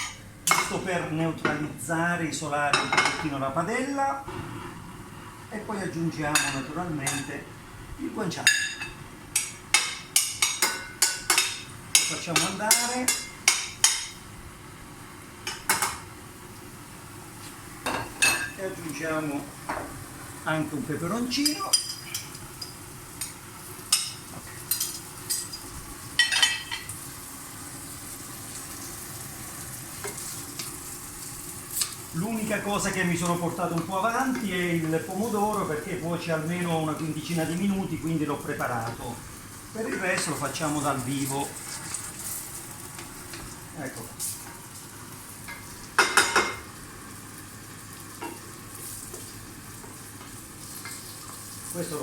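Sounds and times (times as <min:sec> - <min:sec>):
meat sizzling in a pan: 0:08.0 - 0:52.0.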